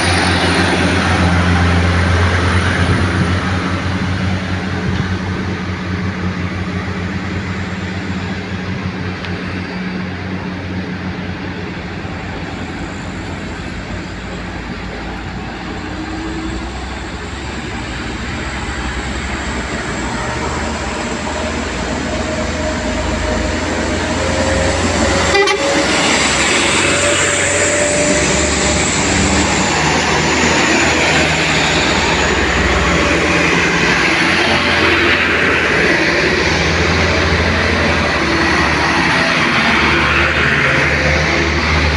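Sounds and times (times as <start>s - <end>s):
truck diesel engine under load: 0.0s - 41.9s.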